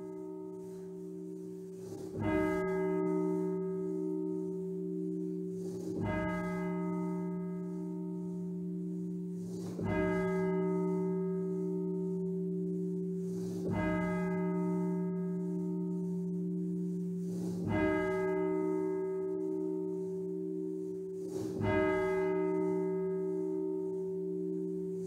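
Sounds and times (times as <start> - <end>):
church bell tolling: 2.0 - 25.0.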